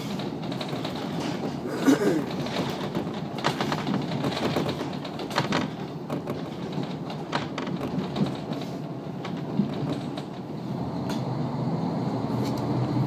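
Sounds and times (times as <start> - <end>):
sharp clicks and knocks: 0.0 - 11.3
train rumble from inside: 0.0 - 13.0.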